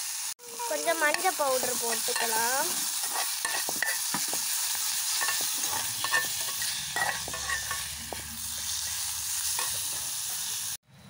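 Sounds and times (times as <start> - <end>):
leaves sizzling in oil: 0.0 - 10.8
spoon scraping a metal pan: 1.1 - 10.6.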